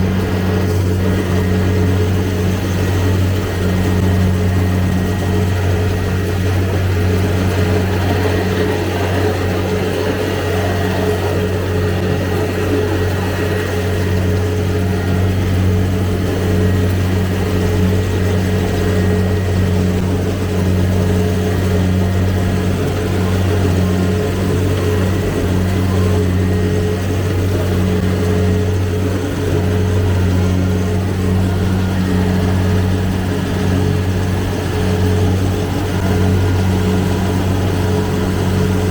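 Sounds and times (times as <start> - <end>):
diesel engine droning under load: 0.0 - 38.9.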